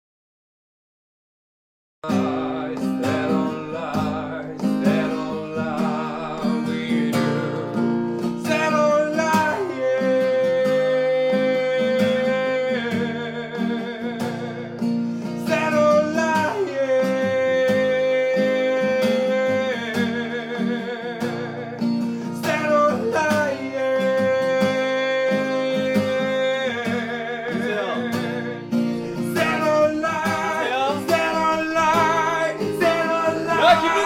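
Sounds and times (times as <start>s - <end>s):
acoustic guitar: 2.0s - 34.0s
person singing: 2.0s - 34.0s.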